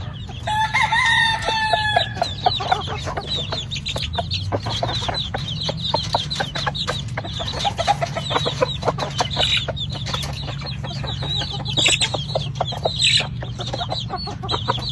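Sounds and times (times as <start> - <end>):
chickens clucking: 0.0 - 14.9
steady low hum: 0.0 - 14.9
chicken squawks: 0.4 - 14.9.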